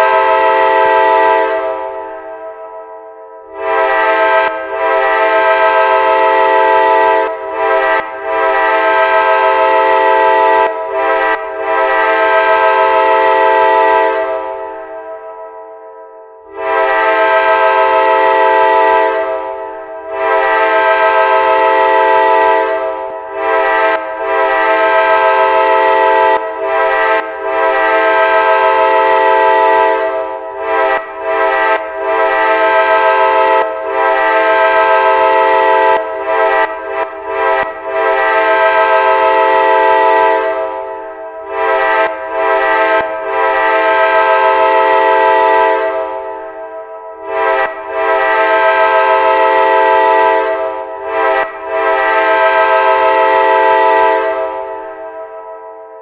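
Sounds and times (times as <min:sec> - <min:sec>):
train horn blasts: 0:00.0 - 0:56.0.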